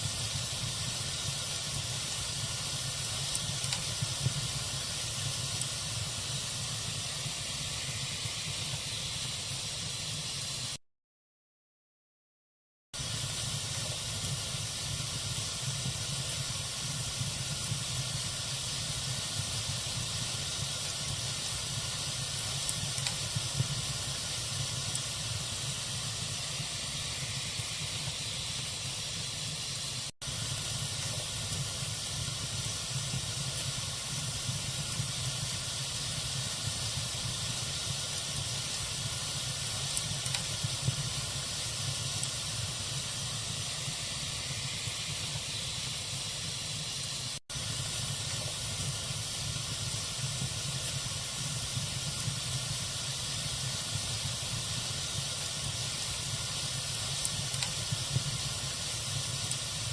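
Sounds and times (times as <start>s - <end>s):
fire crackling: 0.0s - 10.8s, 13.0s - 59.9s
log fire hissing: 0.0s - 10.8s, 13.0s - 59.9s.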